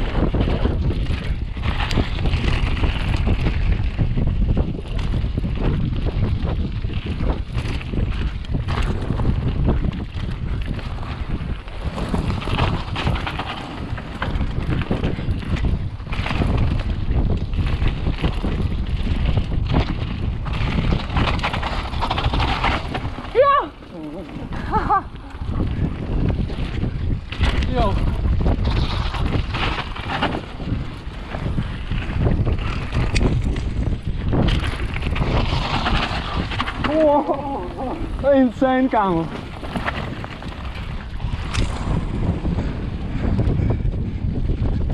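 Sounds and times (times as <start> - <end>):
bike rattling over bumps: 0.0 - 44.9
tyre rumble on dirt: 0.0 - 44.9
wind on microphone: 0.0 - 44.9.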